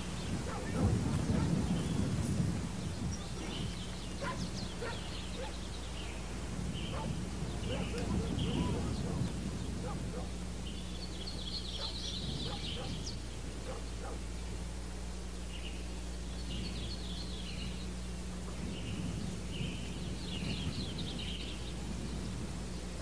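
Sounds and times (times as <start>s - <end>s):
birds twittering: 0.0s - 23.0s
low hum: 0.0s - 23.0s.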